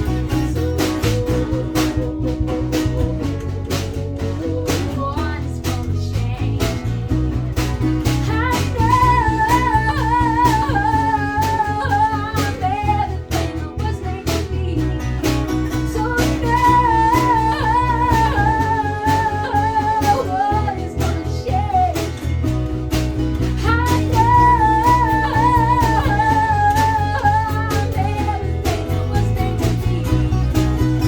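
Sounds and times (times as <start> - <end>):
strummed acoustic guitar: 0.0 - 31.0
woman singing: 0.0 - 31.0.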